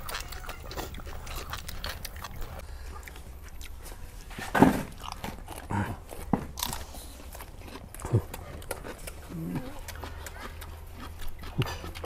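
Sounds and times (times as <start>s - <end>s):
crunching raw vegetable: 0.0s - 12.0s.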